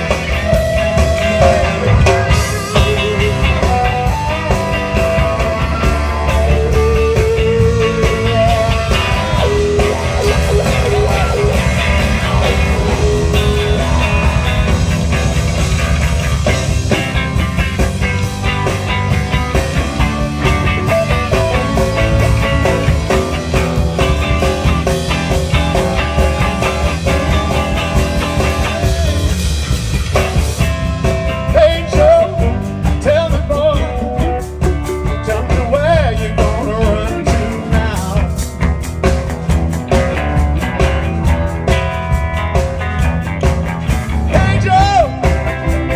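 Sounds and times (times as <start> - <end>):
drum and bass groove: 0.0 - 45.9
electric guitar lines: 0.0 - 45.9.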